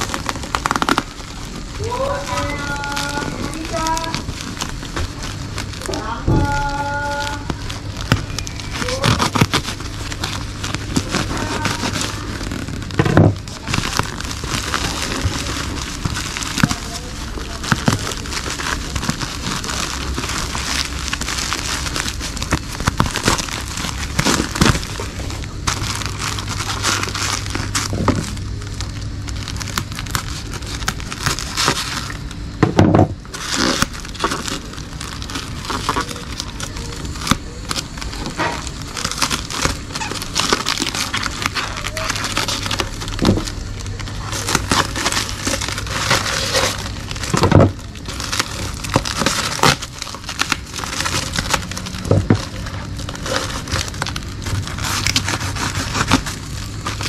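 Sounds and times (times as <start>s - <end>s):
plastic packaging crinkling: 0.0s - 57.0s.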